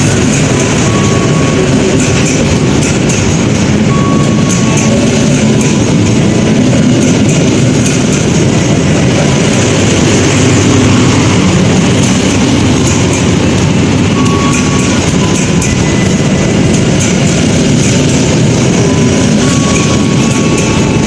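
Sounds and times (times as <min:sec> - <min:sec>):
train wheels rumbling on rail: 0:00.0 - 0:21.0
wheels clicking over rail joints: 0:00.0 - 0:21.0.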